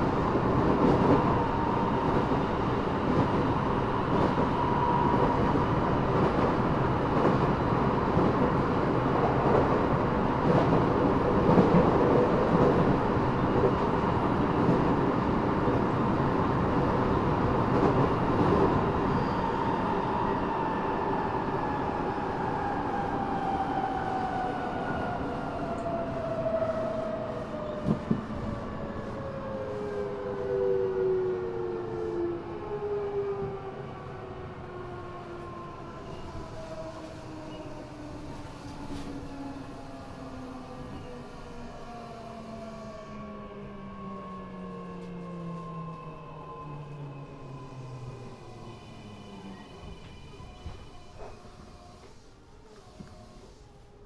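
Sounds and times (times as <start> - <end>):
rumble of train wheels: 0.0 - 54.0
subway inverter whining: 0.0 - 54.0.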